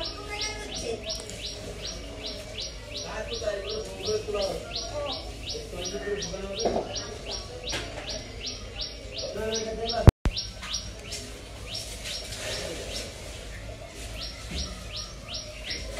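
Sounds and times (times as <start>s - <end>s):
bird chirping: 0.0s - 15.9s.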